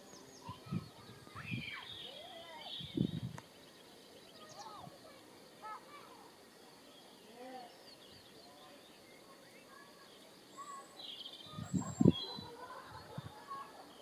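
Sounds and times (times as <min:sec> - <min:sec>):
bird chirps and calls: 0:00.0 - 0:14.0.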